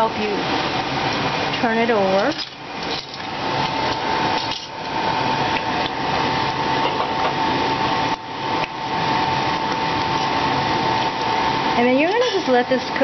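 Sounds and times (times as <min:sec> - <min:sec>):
oil sizzling and crackling: 0:00.0 - 0:13.0
thin steady whine: 0:00.0 - 0:13.0.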